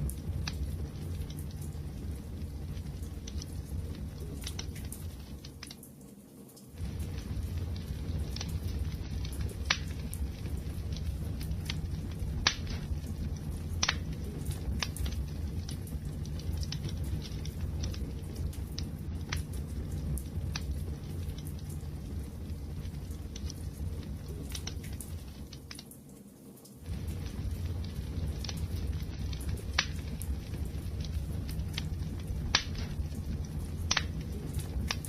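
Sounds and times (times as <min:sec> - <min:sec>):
low rumble: 0:00.0 - 0:05.6, 0:06.8 - 0:25.7, 0:26.8 - 0:35.0
fire pops and snaps: 0:00.0 - 0:35.0
wood fire crackling: 0:00.0 - 0:35.0.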